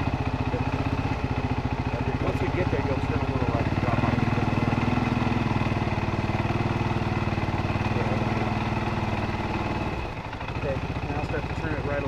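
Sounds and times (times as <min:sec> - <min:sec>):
atv engine puttering: 0:00.0 - 0:12.0.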